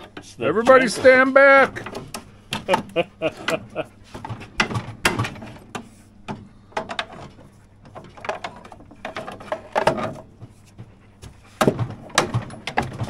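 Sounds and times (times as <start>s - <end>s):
metal clanks and scrapes: 0.0s - 2.3s, 3.2s - 13.0s.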